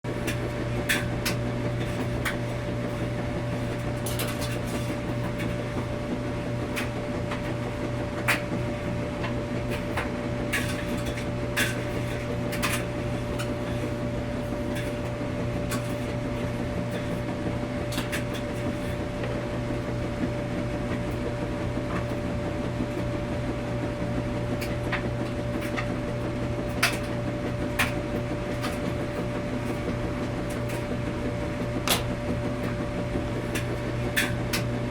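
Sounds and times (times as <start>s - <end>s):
washing machine humming: 0.0s - 34.9s.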